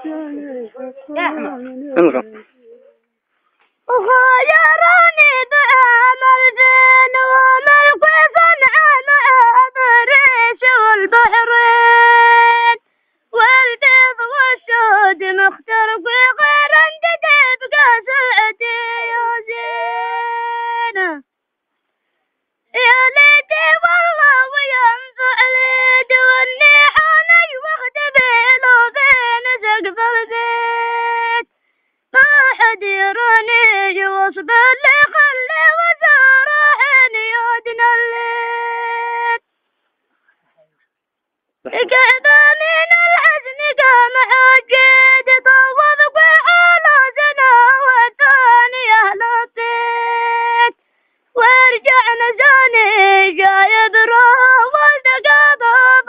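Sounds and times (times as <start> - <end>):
boy singing unaccompanied: 0.0 - 3.2, 3.9 - 21.3, 22.7 - 31.5, 32.1 - 39.5, 41.7 - 56.0.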